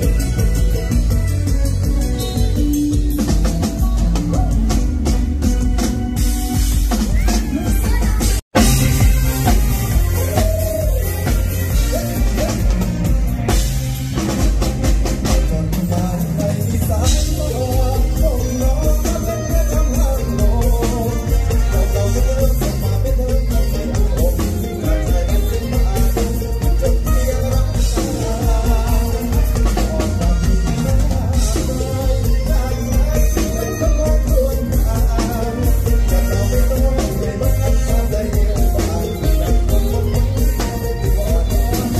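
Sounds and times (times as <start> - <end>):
man singing into microphone: 0.0 - 5.6, 9.4 - 13.6, 15.2 - 41.9
live band instrumental music: 0.0 - 41.9.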